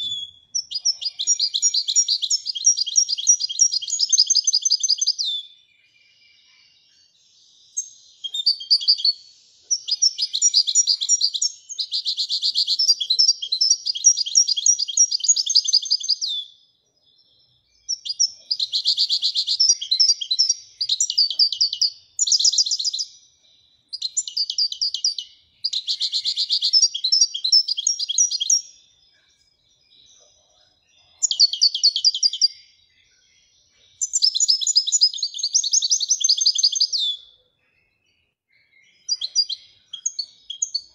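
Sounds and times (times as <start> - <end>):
finch twittering song: 0.0 - 40.9.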